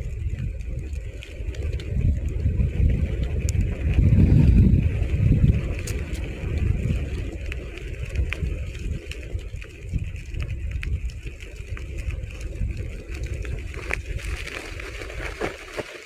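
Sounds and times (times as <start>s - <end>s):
skateboard wheels rumbling: 0.0s - 16.0s
small clicks and ticks: 0.0s - 16.0s.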